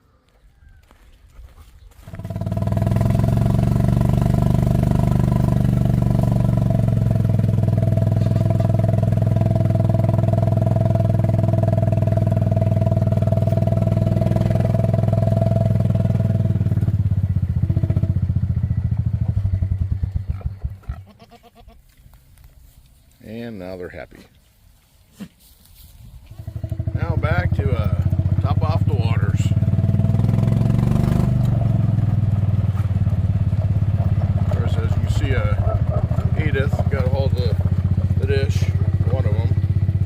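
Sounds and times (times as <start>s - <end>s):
vehicle engine running: 2.0s - 21.1s, 26.2s - 40.0s.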